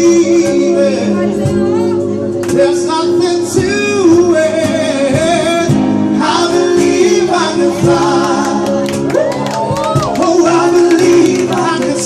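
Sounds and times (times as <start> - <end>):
instrumental backing music: 0.0 - 12.0
voices singing pop ballad: 0.0 - 12.0.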